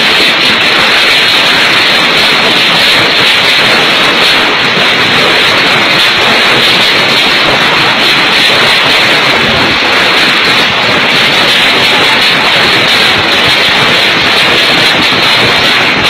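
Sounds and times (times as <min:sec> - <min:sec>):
hailstorm with strong wind: 0:00.0 - 0:16.0.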